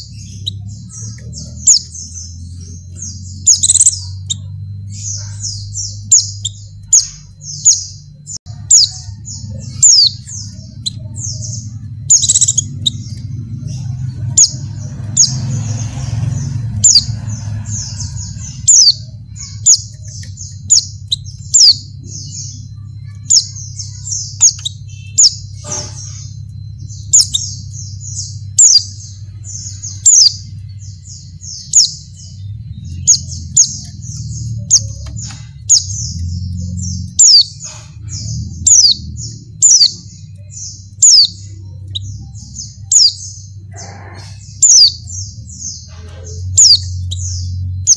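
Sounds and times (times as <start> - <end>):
bird chirping rapidly: 0.0 - 47.9.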